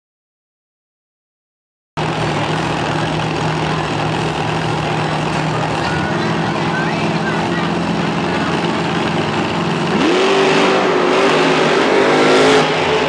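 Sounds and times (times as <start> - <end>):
monster truck engine running: 2.0 - 13.0.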